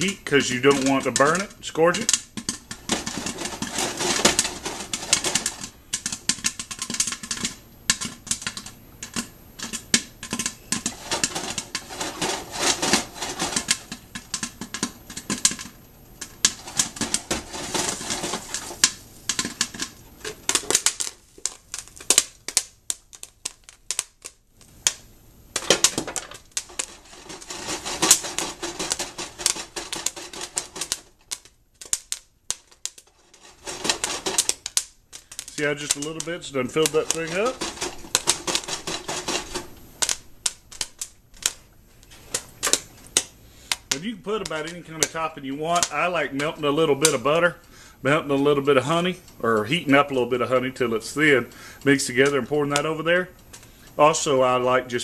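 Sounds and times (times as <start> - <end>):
popcorn popping in a pot: 0.0 - 55.0.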